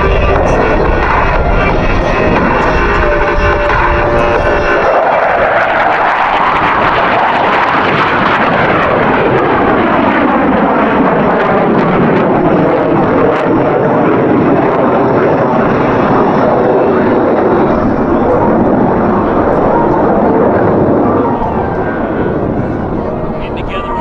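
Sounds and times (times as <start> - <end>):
jet aircraft flying past: 0.0 - 24.0.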